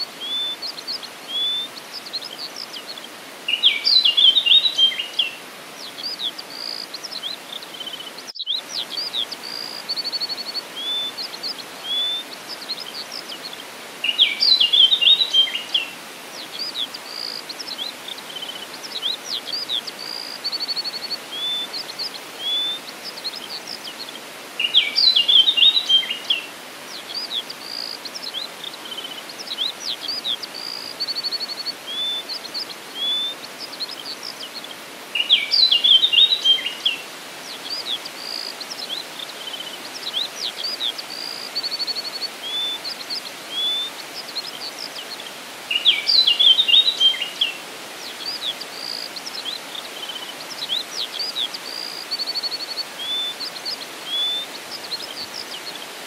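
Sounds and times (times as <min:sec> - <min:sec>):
birds singing and calling: 0:00.0 - 0:56.0
steady background hiss: 0:00.0 - 0:56.0.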